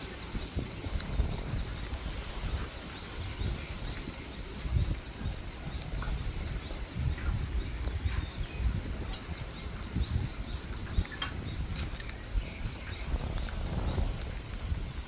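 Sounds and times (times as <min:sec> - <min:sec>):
birds chirping: 0:00.0 - 0:15.0
wind rumble on microphone: 0:00.0 - 0:15.0.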